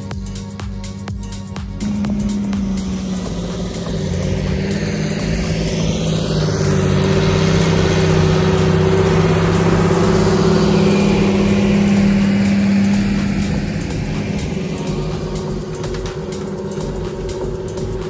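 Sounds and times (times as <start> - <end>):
tractor diesel engine under load: 0.0 - 18.0
harrow discs cutting soil: 1.8 - 18.0.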